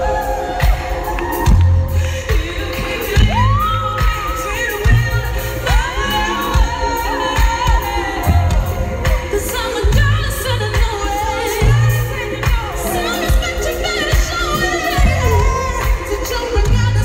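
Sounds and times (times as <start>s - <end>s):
woman singing amplified: 0.0s - 17.0s.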